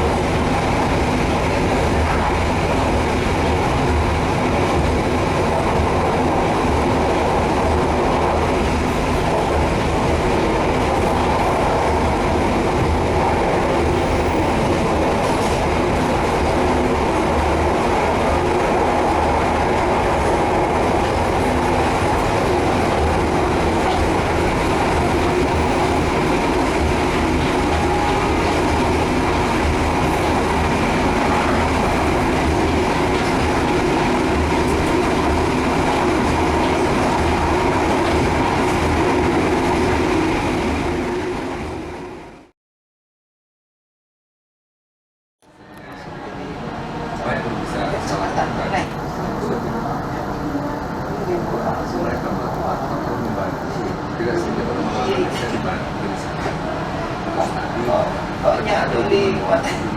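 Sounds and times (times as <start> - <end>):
train wheels rumbling on rails: 0.0 - 42.5, 45.8 - 59.9.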